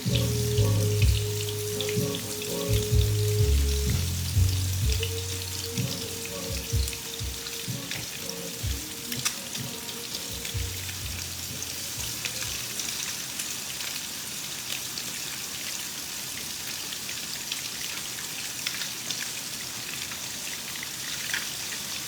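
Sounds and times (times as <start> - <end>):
fish sizzling in hot grease: 0.0 - 22.0.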